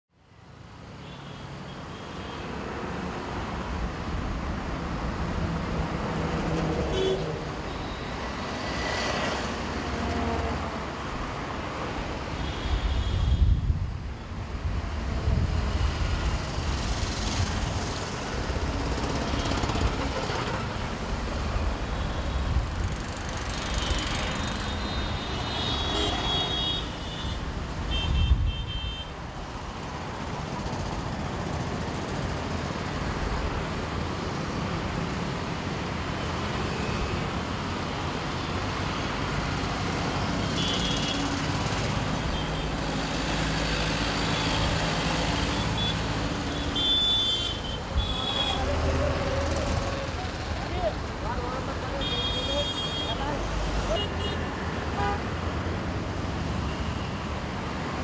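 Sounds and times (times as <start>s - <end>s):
vehicles passing: 2.4s - 58.0s.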